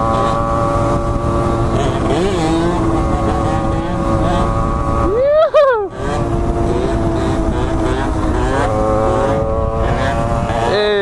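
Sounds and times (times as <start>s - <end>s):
motorcycle engines running: 0.0s - 11.0s
wind noise on microphone: 0.0s - 11.0s.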